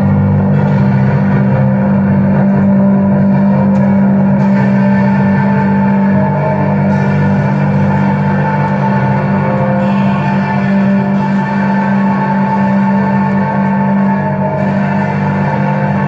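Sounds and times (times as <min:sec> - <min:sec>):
drone music: 0:00.0 - 0:16.0.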